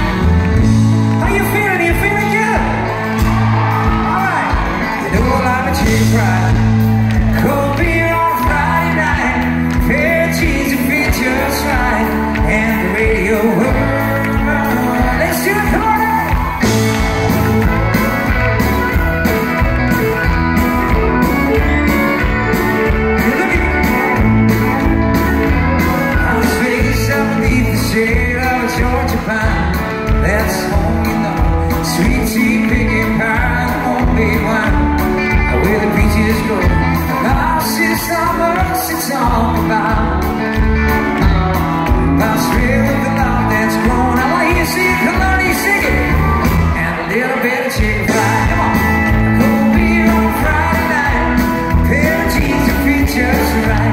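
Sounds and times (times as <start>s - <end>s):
man singing: 0.0s - 17.8s, 18.9s - 53.9s
live country band playing: 0.0s - 53.9s.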